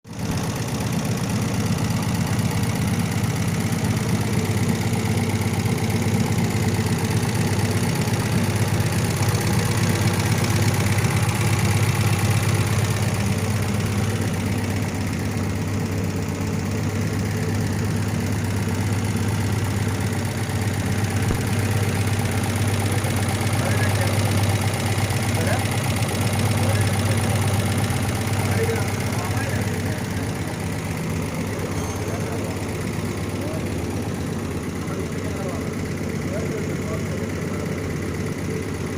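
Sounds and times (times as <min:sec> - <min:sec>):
car engine idling: 0:00.1 - 0:38.9.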